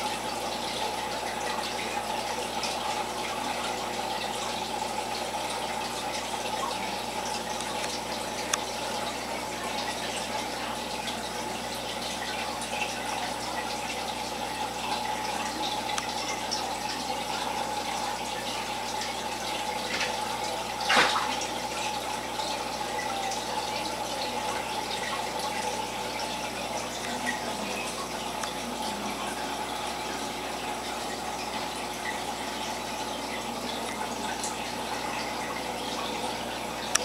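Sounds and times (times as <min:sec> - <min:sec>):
aquarium filter bubbling water: 0:00.0 - 0:37.0.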